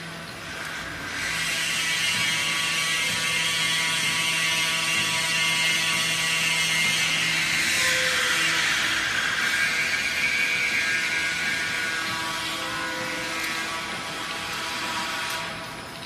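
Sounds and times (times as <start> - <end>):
metal belt conveyor clattering: 0.0 - 16.0.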